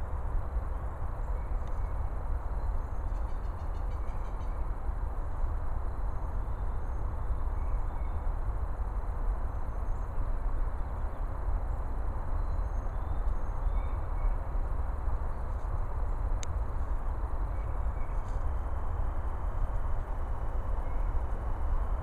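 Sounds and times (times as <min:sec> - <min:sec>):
low rumble and hiss: 0:00.0 - 0:22.0.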